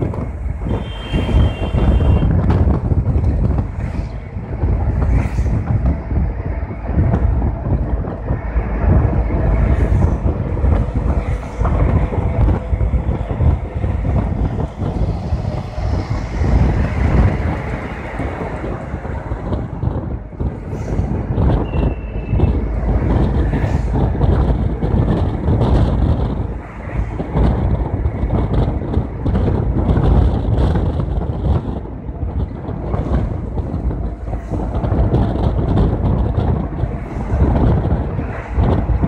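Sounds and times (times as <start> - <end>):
deep rumble of bus: 0.0 - 39.0
road traffic: 0.0 - 39.0
wind buffeting microphone: 0.0 - 39.0.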